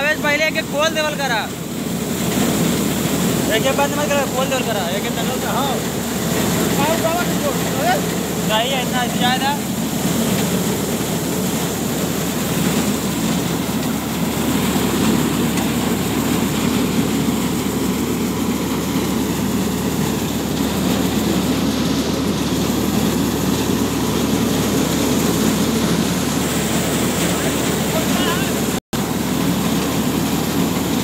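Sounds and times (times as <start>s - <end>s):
mill machinery droning: 0.0s - 31.0s
tractor diesel engine: 0.0s - 31.0s.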